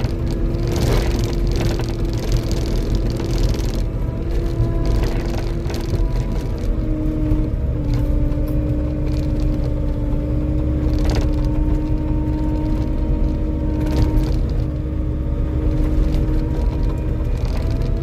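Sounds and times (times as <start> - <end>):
diesel engine under load: 0.0 - 18.0
held whine: 0.0 - 18.0.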